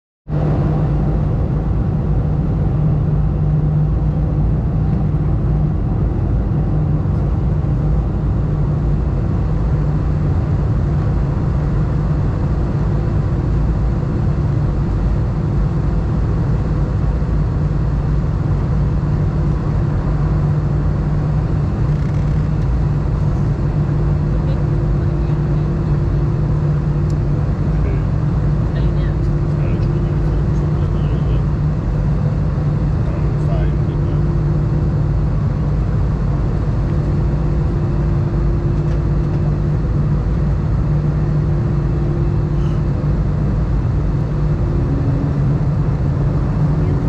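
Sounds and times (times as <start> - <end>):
low aircraft engine hum: 0.3 - 47.0.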